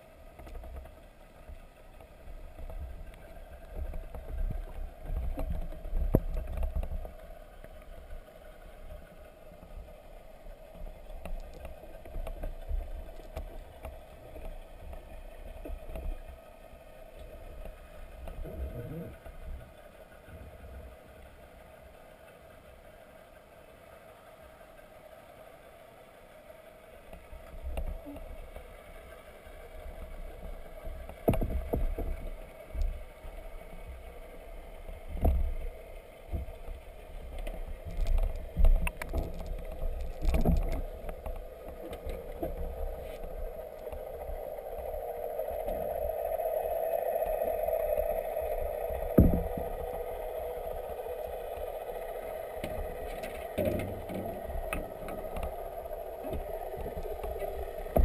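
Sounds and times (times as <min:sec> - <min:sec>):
muffled underwater hum: 0:00.0 - 0:58.0.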